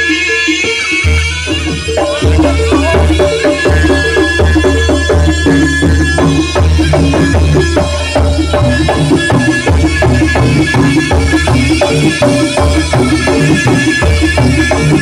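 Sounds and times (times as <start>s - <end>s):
drums and percussion beat: 0.0s - 15.0s
sustained pitched tones: 1.0s - 15.0s.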